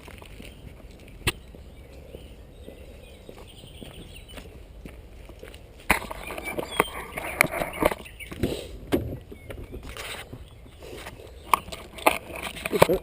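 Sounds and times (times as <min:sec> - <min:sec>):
footsteps scuffing over debris: 0:00.0 - 0:13.0.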